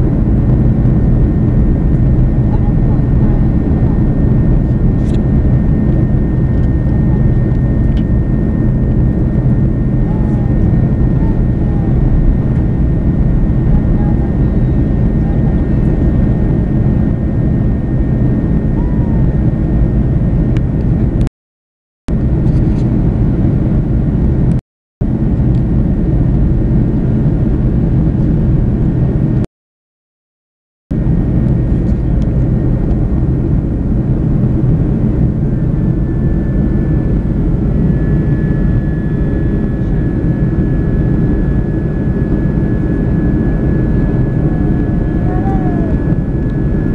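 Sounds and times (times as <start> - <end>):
jet engine roar in cabin: 0.0 - 21.3, 22.1 - 29.5, 30.9 - 46.9.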